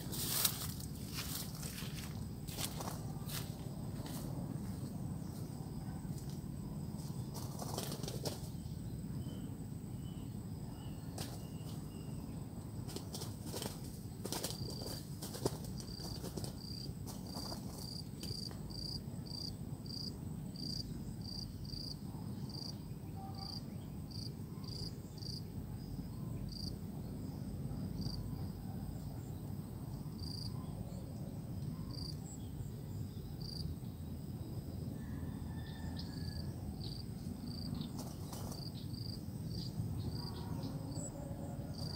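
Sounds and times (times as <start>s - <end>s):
insect chirping: 0.0s - 41.9s
low background noise: 0.0s - 41.9s.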